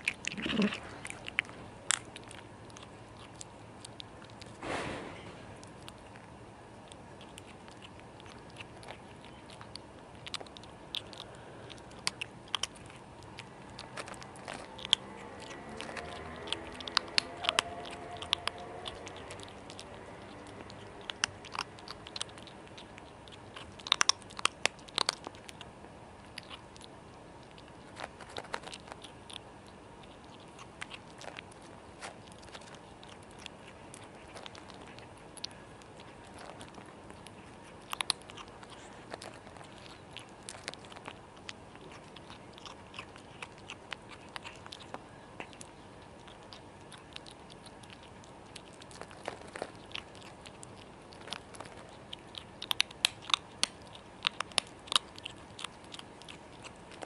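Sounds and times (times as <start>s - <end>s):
kitten crunching dry kibble: 0.0s - 57.0s.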